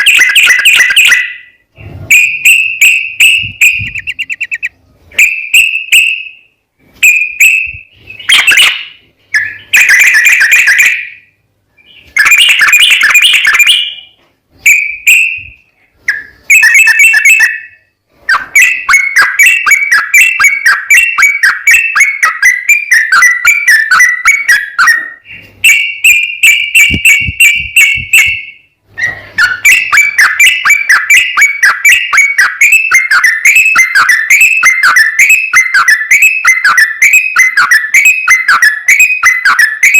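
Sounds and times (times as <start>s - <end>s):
bulbul singing whistled phrases: 0.0s - 39.9s.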